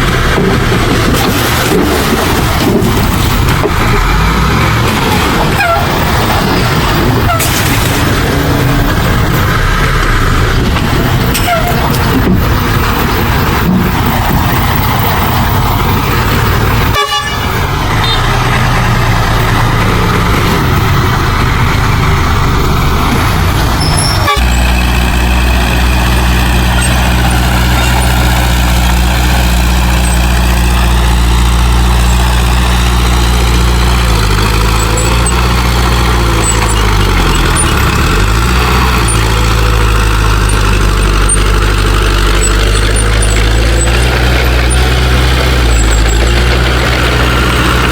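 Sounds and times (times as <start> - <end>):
heavy machinery diesel engines: 0.0 - 47.9.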